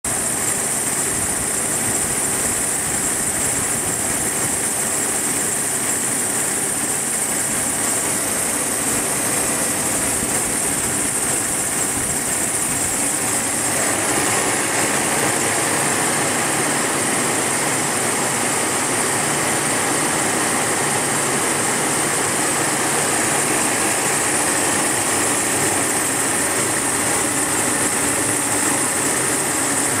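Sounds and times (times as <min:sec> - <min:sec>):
engine bay belt noise: 0:00.1 - 0:30.0.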